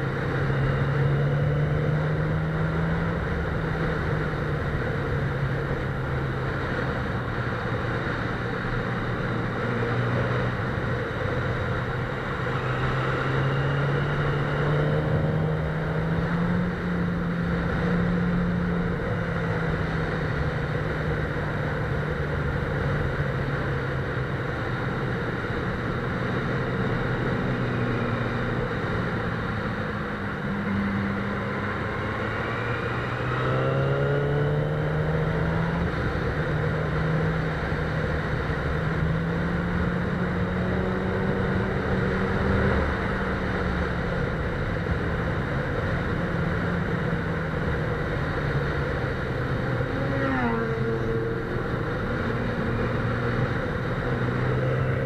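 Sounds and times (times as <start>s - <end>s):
motorcycle engine: 0.0s - 55.0s
wind and road noise: 0.0s - 55.0s.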